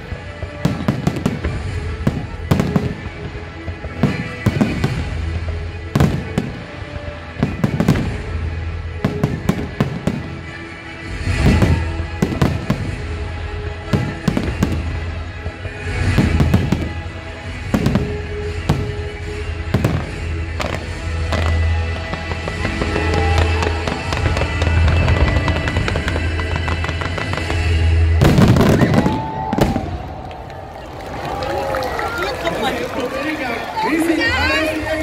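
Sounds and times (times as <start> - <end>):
fireworks bangs and crackling: 0.0 - 35.0
music playing: 0.0 - 35.0.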